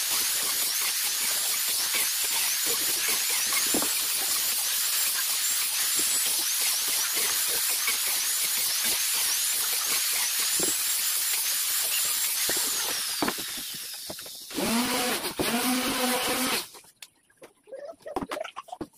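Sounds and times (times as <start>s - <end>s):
orbital sander rasping: 0.0s - 16.8s.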